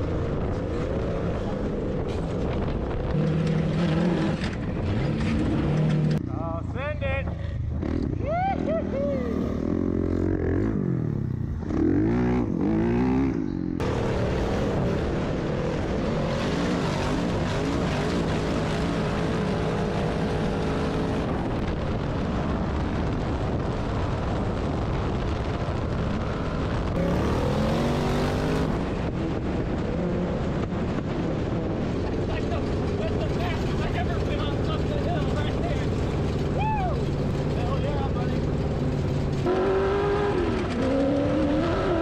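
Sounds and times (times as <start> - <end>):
off-road vehicle engines revving: 0.0 - 42.0.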